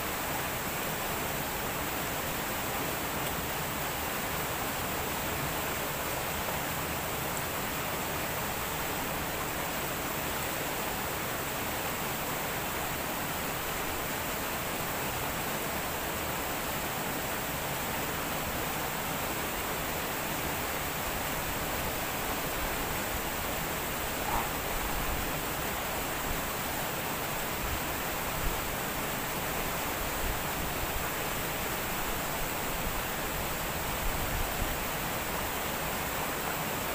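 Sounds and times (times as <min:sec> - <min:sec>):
river rushing over rocks: 0:00.0 - 0:36.9.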